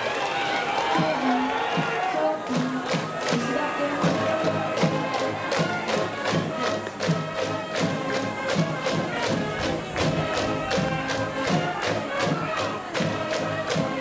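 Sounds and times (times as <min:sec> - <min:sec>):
brass band playing: 0:00.0 - 0:14.0
crowd voices: 0:00.0 - 0:14.0
drum beat: 0:00.0 - 0:14.0.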